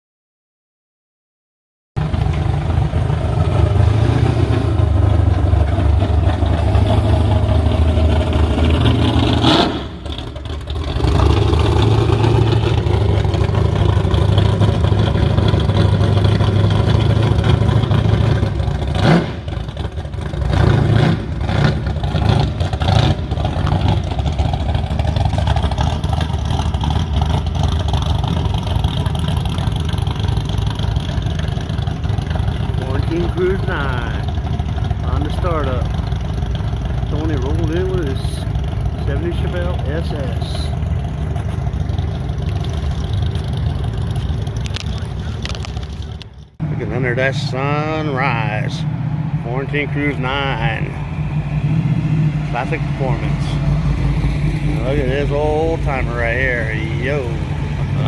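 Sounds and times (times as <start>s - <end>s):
car engines rumbling and revving: 2.0s - 58.0s.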